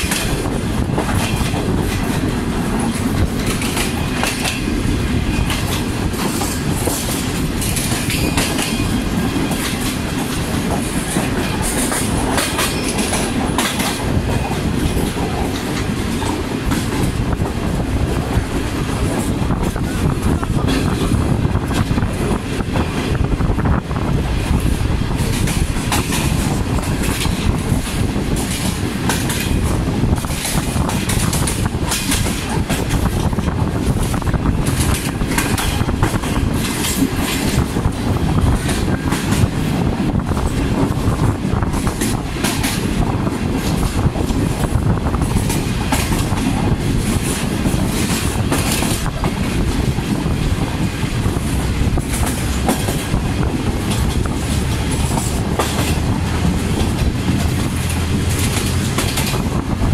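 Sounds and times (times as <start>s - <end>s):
wheels clicking over rail joints: 0.0s - 23.3s, 24.5s - 59.9s
train rumbling: 0.0s - 59.9s.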